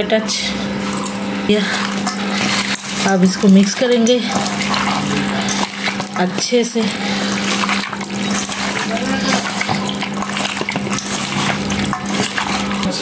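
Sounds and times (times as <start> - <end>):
steady low hum: 0.0 - 13.0
hand squelching meat in bowl: 1.6 - 13.0.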